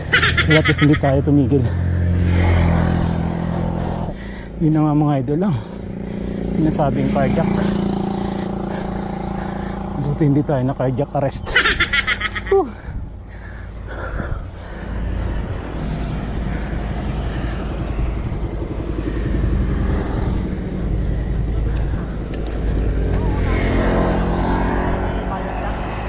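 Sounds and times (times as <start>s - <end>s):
wind buffeting microphone: 2.3s - 26.0s.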